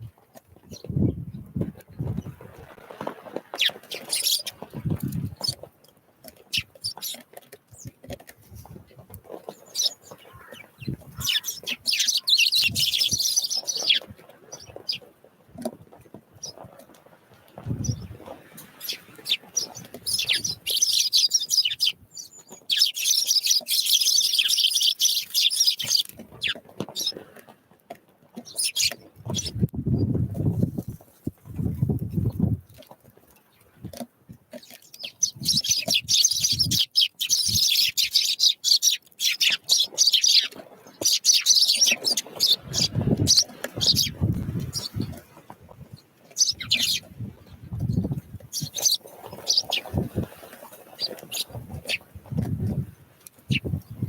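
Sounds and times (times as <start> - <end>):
small birds chirping: 0.0 - 27.4, 28.4 - 54.0
birds thumping on a feeder: 0.1 - 54.0
birds rapid chattering: 2.0 - 5.7, 6.3 - 15.2, 16.0 - 27.4, 28.4 - 29.6, 33.4 - 54.0.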